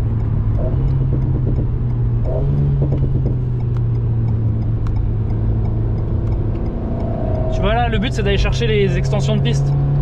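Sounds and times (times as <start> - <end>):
car engine from inside cabin: 0.0 - 10.0.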